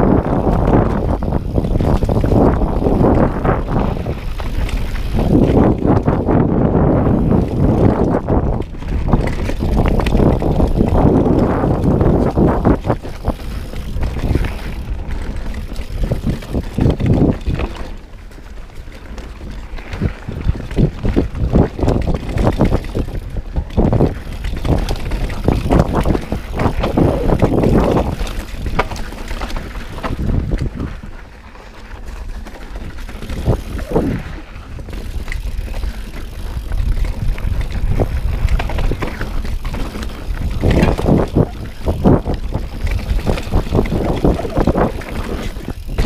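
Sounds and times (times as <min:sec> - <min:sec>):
bike rattling and clattering: 0:00.0 - 0:46.0
tyres on dirt: 0:00.0 - 0:46.0
wind buffeting microphone: 0:00.0 - 0:46.0.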